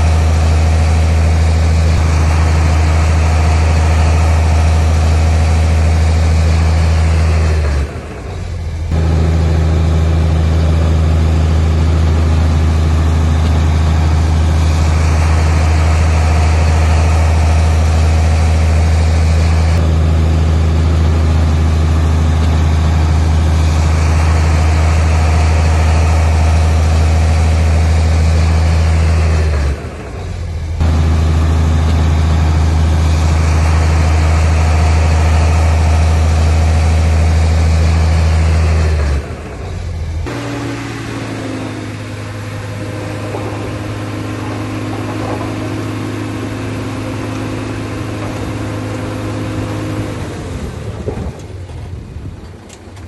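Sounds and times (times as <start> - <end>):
heavy diesel engine humming: 0.0 - 53.0.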